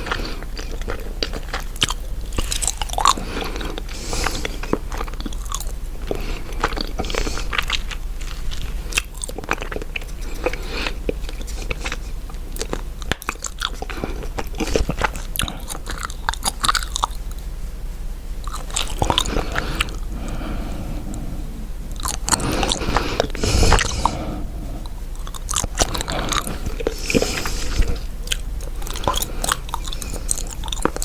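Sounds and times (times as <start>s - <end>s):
gum chewing with clicks: 0.0s - 17.5s, 18.4s - 21.3s, 21.9s - 31.0s.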